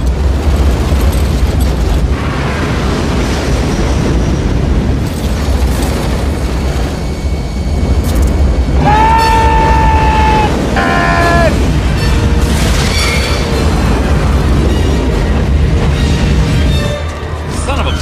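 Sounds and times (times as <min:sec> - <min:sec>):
explosion rumble: 0:00.0 - 0:16.6.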